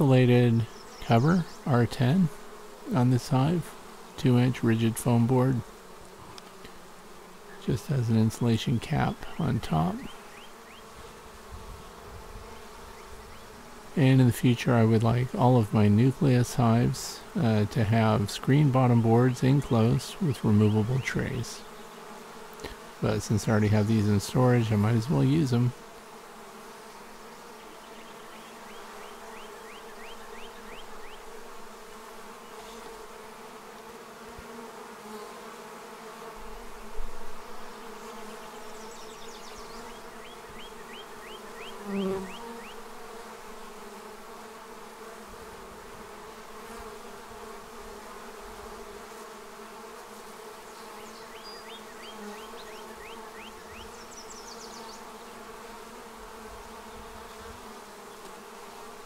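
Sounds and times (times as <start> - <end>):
bee swarm humming: 0.0 - 59.0.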